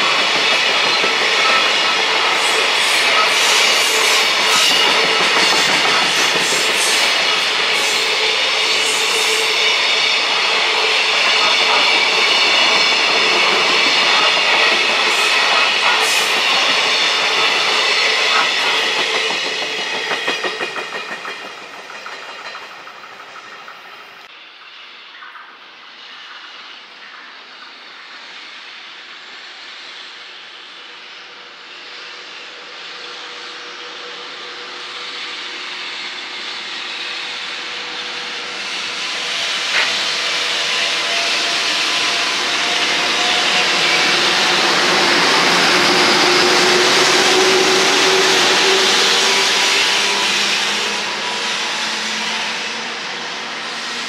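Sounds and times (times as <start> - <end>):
train passing rumble: 0.0 - 54.0.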